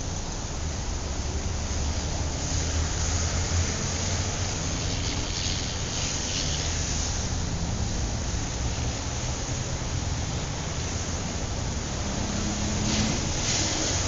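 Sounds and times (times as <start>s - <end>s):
hiss: 0.6s - 14.0s.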